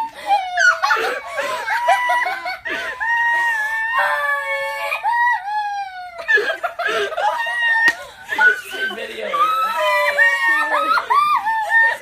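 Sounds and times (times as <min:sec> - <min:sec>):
girls squealing and shrieking: 0:00.0 - 0:12.0.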